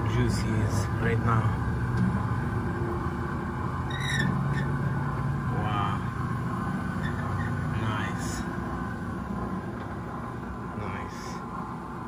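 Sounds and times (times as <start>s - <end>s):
gas grill humming: 0.0s - 12.0s.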